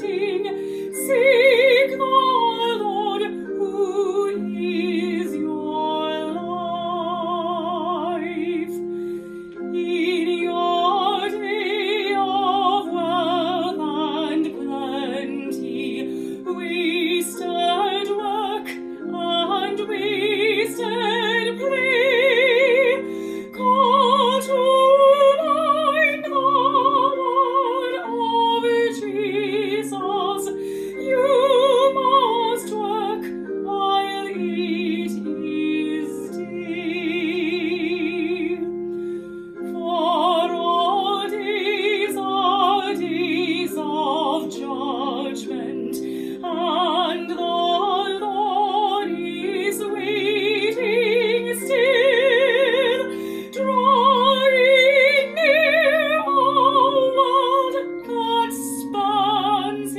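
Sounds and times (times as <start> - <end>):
woman singing with vibrato: 0.0 - 8.9, 9.5 - 38.8, 39.6 - 59.9
held chord accompaniment: 0.0 - 59.9.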